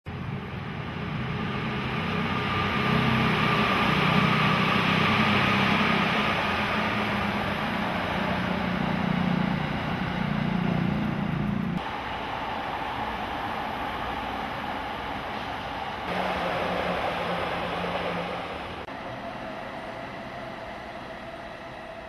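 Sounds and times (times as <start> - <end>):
electric train rumble: 0.1 - 22.0.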